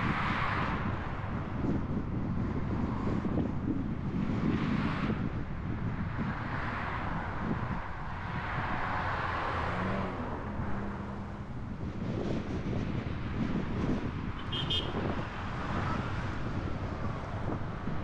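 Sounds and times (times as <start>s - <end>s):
road and engine noise: 0.0s - 18.0s.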